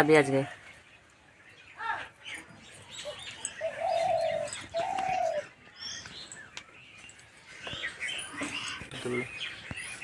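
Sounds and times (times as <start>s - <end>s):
drawn-out bird calls: 0.0s - 10.0s
small birds chirping: 0.0s - 10.0s.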